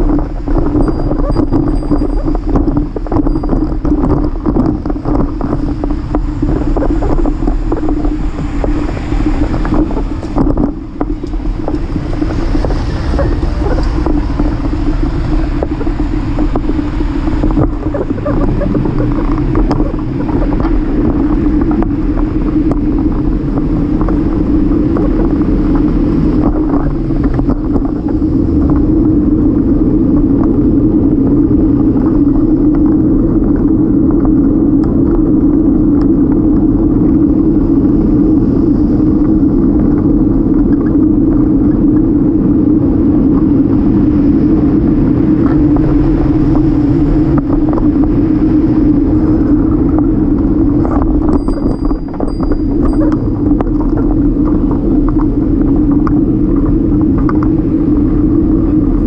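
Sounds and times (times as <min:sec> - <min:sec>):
tyre and road rumble: 0:00.0 - 0:59.0
wind buffeting microphone: 0:00.0 - 0:59.0.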